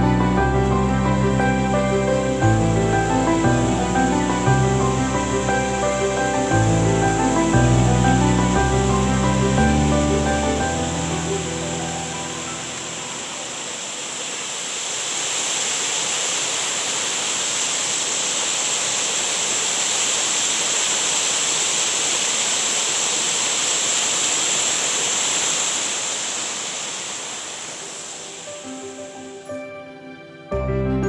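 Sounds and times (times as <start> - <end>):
waterfall rushing hiss: 0.0 - 29.6.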